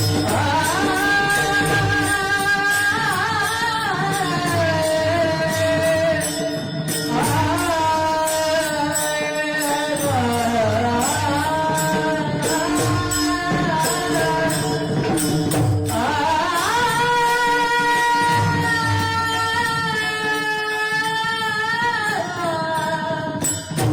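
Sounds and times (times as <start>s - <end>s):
instrumental accompaniment: 0.0s - 23.9s
man singing devotional song: 0.0s - 23.9s.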